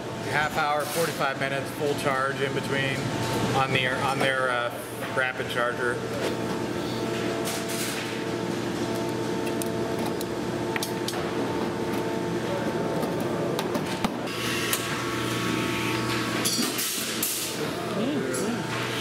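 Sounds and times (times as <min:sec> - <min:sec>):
workshop hum: 0:00.0 - 0:19.0.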